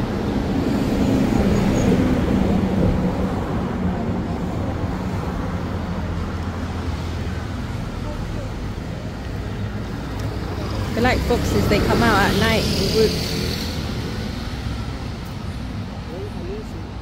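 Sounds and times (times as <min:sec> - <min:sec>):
vehicle rumbling past: 0:00.0 - 0:16.6
traffic hum: 0:00.0 - 0:17.0.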